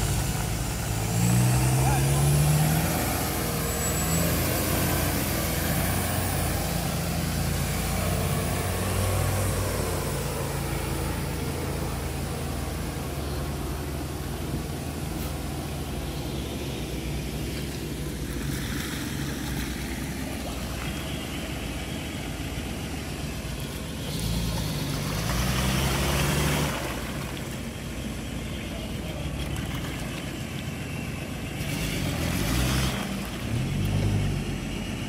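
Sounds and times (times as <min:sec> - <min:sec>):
off-road vehicle engine revving: 0:00.0 - 0:35.0
tyres churning through mud and water: 0:00.0 - 0:35.0.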